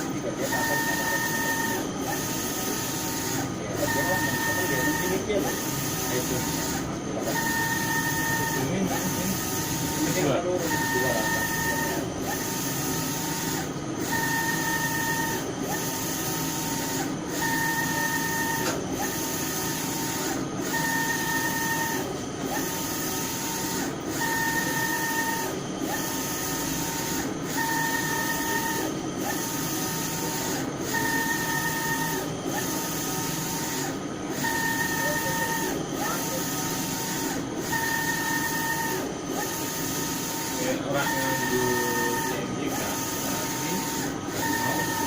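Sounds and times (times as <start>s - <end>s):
printer carriage motor whine: 0.0s - 45.0s.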